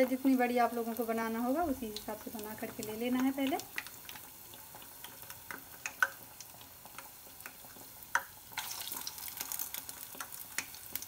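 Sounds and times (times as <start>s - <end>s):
hot oil crackling: 0.0s - 11.0s
oil popping: 1.6s - 11.0s.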